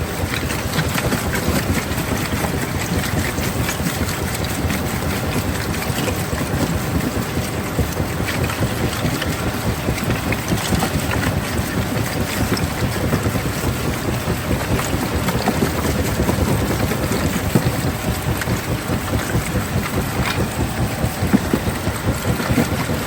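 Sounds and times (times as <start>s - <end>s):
heavy machinery rumble: 0.0s - 23.0s.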